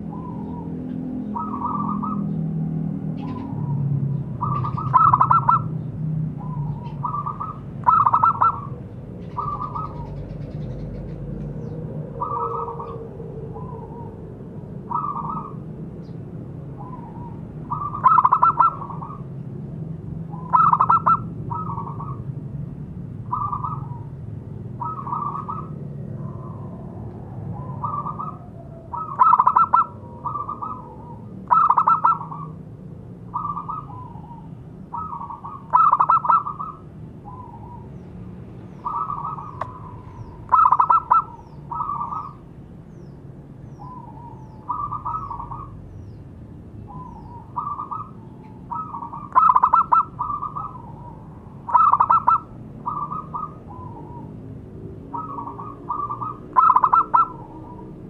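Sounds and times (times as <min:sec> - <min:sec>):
dove cooing: 0:00.0 - 0:15.8, 0:16.6 - 0:19.4, 0:20.2 - 0:22.3, 0:23.3 - 0:32.6, 0:33.3 - 0:38.1, 0:38.7 - 0:42.4, 0:43.8 - 0:45.8, 0:46.9 - 0:54.4, 0:55.1 - 0:58.0.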